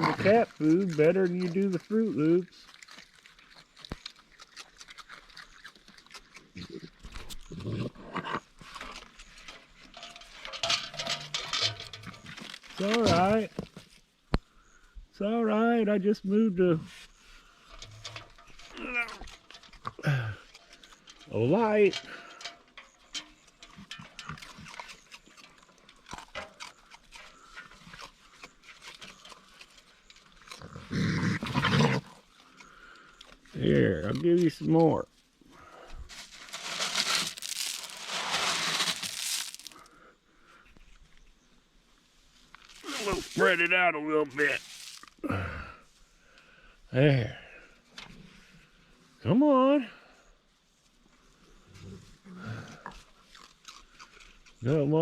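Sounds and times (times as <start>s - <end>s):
animals chewing food: 0.0s - 15.0s, 16.9s - 41.3s, 42.4s - 46.6s, 51.0s - 54.6s
raccoons feeding crunches: 0.0s - 15.0s, 16.8s - 41.3s, 42.2s - 46.6s, 51.0s - 55.0s.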